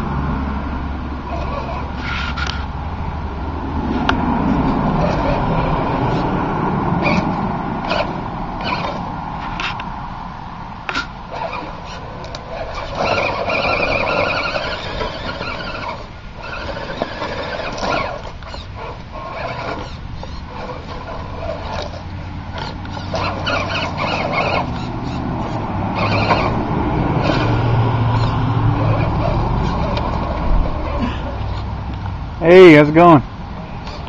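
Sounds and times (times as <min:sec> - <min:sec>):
electric motor and gears whining: 0:00.8 - 0:10.2, 0:10.8 - 0:34.0.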